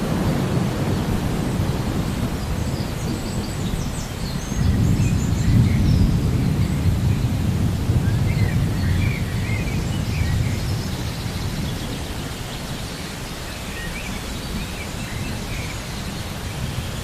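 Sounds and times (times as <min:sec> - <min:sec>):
low rumble of thunder: 0:00.0 - 0:17.0
rain: 0:00.0 - 0:17.0.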